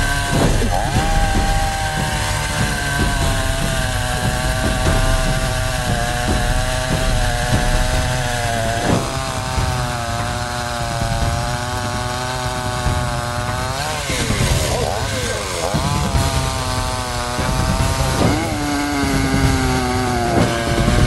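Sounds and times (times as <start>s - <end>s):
chainsaw running at high revs: 0.0s - 21.0s.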